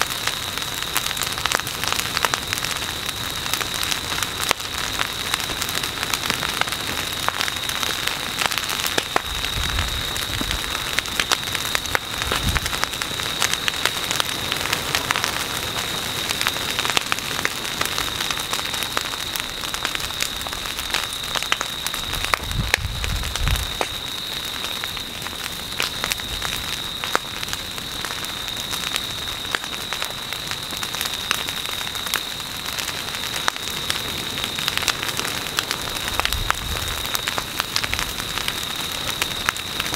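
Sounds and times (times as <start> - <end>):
vegetation crackling and popping in flames: 0.0 - 39.9.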